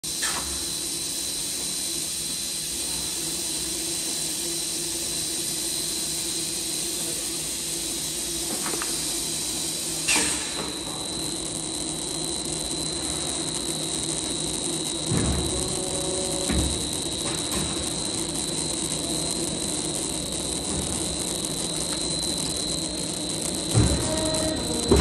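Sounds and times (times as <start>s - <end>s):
machine hum and hiss: 0.0s - 25.0s
constant high whine: 0.1s - 25.0s.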